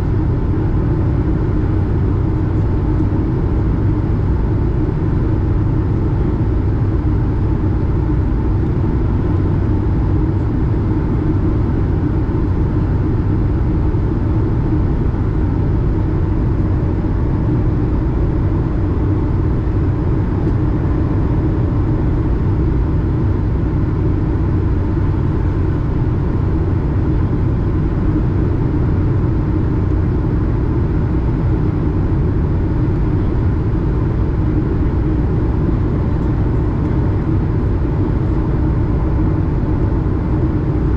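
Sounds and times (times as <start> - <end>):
airliner cabin jet engine drone: 0.0 - 40.9
faint steady hum: 0.0 - 40.9.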